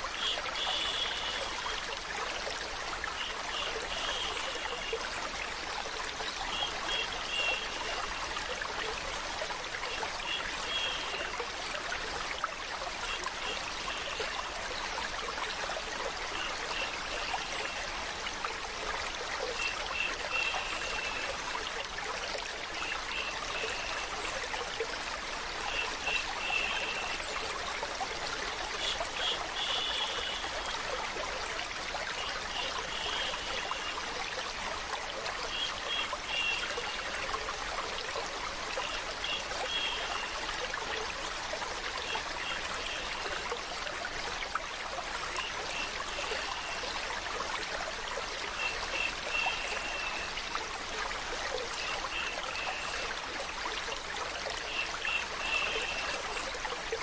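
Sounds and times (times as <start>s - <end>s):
running and trickling water: 0.0s - 57.0s.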